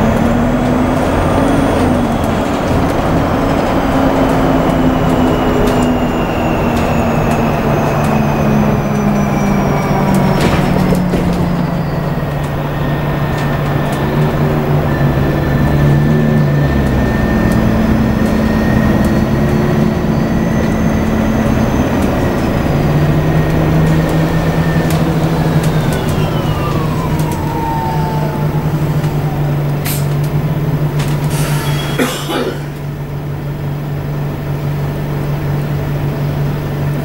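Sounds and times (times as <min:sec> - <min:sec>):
low engine drone: 0:00.0 - 0:37.0
road noise: 0:00.0 - 0:37.0.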